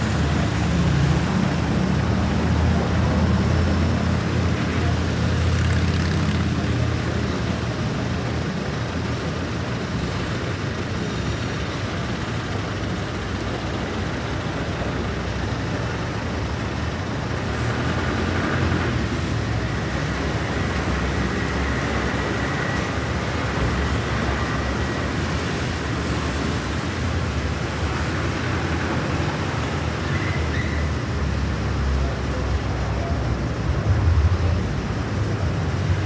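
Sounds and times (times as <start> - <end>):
traffic and engine rumble: 0.0 - 36.0.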